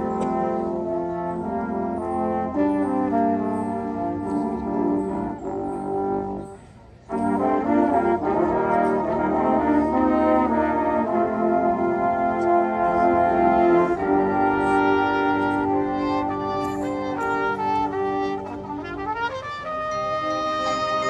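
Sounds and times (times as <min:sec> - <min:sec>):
marching band brass chords: 0:00.0 - 0:21.0.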